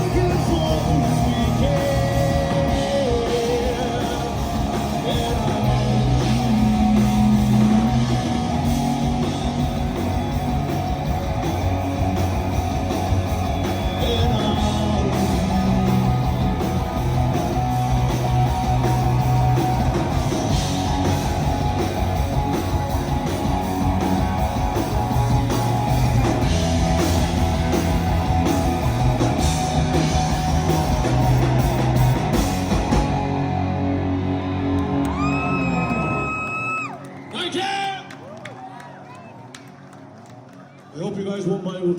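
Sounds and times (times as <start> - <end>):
bass guitar: 0.0 - 37.3
electric guitar: 0.0 - 37.3
drums: 0.0 - 38.2.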